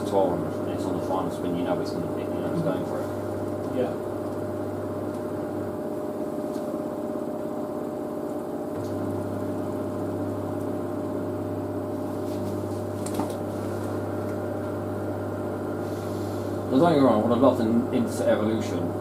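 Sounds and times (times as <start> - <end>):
washer dryer motor hum: 0.0 - 19.0.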